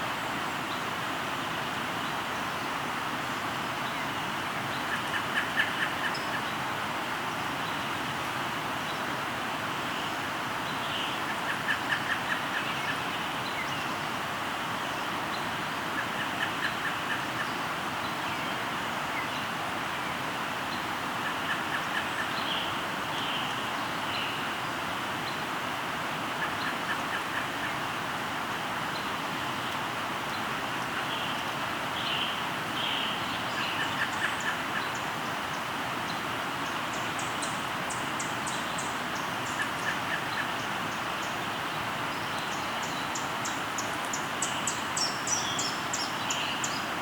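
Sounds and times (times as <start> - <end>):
flowing river: 0.0 - 47.0.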